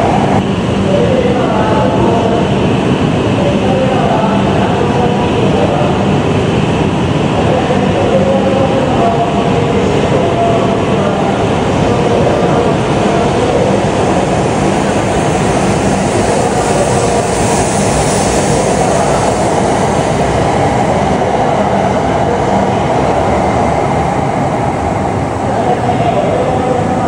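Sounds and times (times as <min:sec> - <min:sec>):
train hum: 0:00.0 - 0:27.0.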